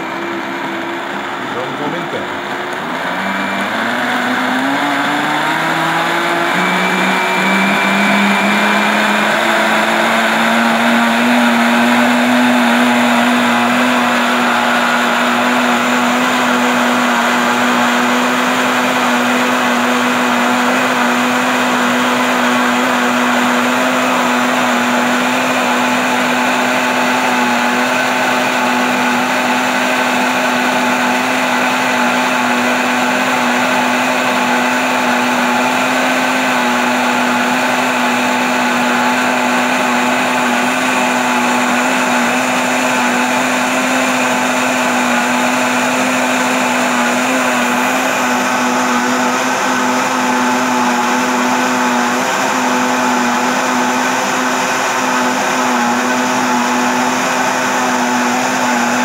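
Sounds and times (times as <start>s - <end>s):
blender running: 0.0s - 59.0s.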